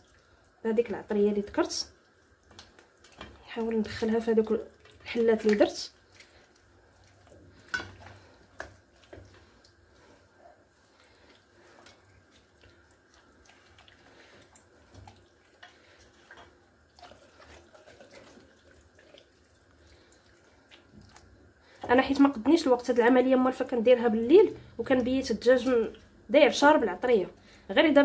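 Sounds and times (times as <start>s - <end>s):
hands squishing marinade: 0.8s - 26.7s.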